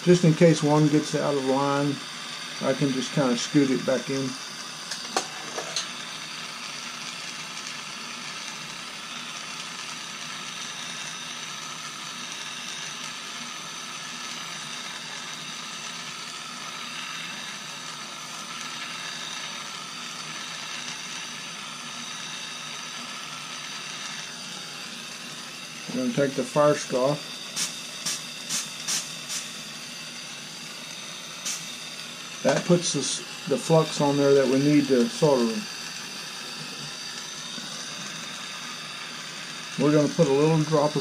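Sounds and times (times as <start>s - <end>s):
gas torch hissing: 0.0s - 41.0s.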